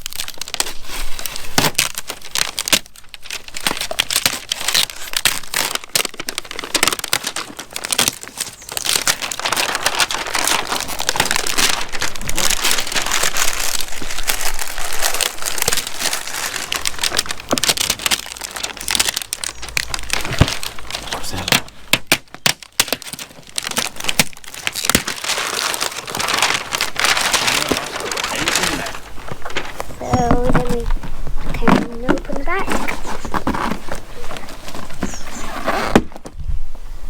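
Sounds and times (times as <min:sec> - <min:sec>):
plastic wrapping crinkling: 0:00.0 - 0:36.3.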